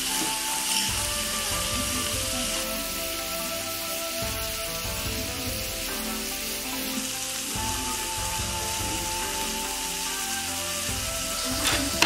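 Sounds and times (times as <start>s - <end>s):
soft background music: 0.0s - 12.0s
steak sizzling on grill pan: 0.0s - 12.0s.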